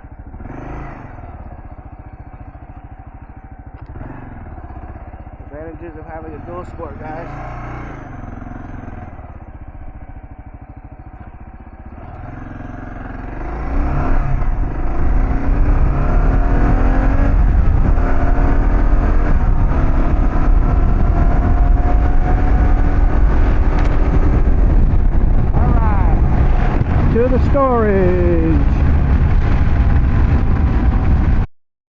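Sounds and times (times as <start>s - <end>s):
motorcycle engine running: 0.0s - 31.5s.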